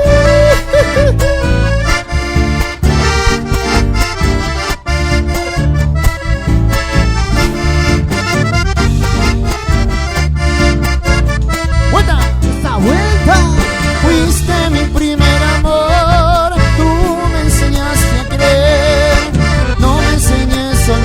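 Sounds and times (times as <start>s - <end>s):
accordion melody: 0.0s - 21.0s
bass line: 0.0s - 21.0s
driving percussive beat: 0.0s - 21.0s.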